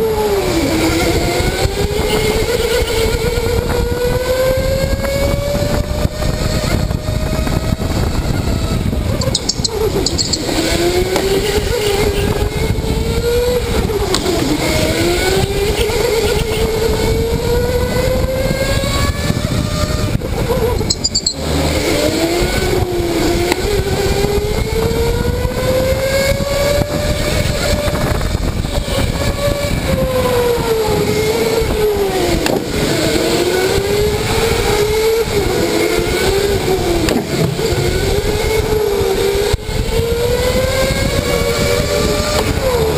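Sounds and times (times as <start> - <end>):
electric go-kart motor whining: 0.0 - 42.9.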